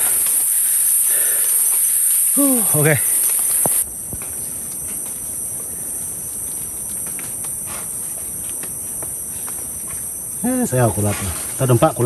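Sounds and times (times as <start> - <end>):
faint ticks and crackles: 0.0 - 12.0
insect chorus: 0.0 - 12.0.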